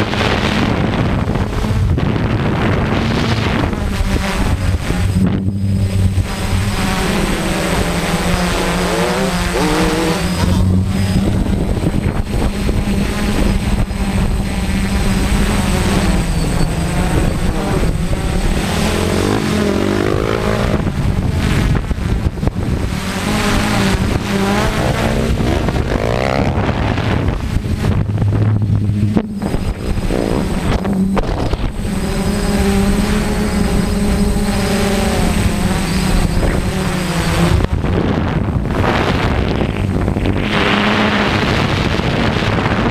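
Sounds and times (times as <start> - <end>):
drone motors and propellers humming: 0.0 - 42.9.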